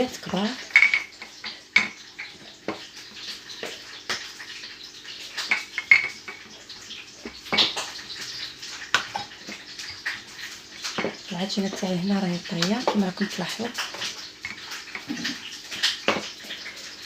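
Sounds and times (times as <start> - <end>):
kitchen utensils clinking: 0.0 - 17.0.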